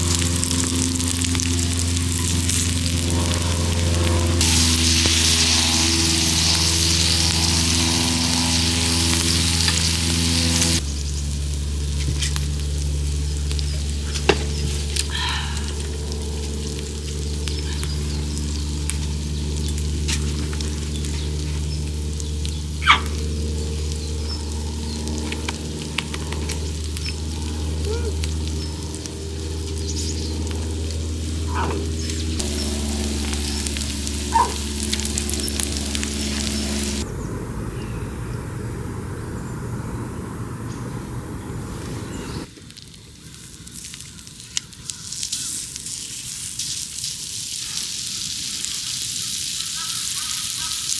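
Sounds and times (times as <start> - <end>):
meat sizzling on a griddle: 0.0 - 31.6, 32.4 - 37.0, 42.6 - 50.9
steady low hum: 0.0 - 42.5.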